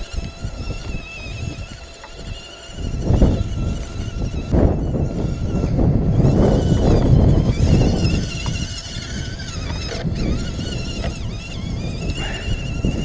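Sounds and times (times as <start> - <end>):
small electric motors whining: 0.0 - 13.0
wind buffeting microphone: 0.0 - 13.0.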